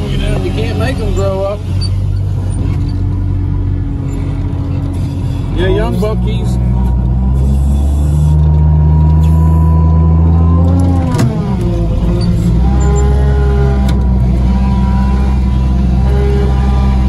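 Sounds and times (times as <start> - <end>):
diesel engine running hard: 0.0 - 17.0.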